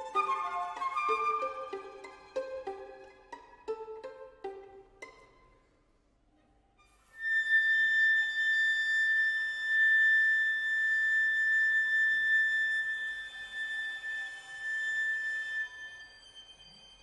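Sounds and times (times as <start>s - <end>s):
chamber music for flute and violins: 0.0s - 5.4s, 6.8s - 17.0s.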